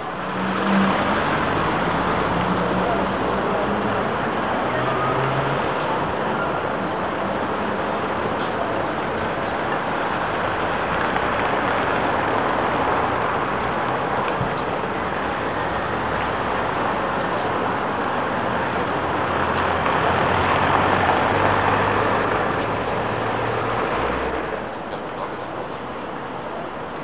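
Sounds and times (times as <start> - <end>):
road vehicles rushing: 0.0 - 27.0.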